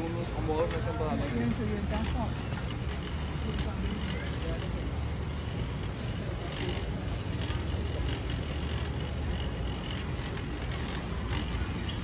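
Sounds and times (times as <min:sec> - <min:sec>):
shopping cart rolling on concrete: 0:00.0 - 0:12.0.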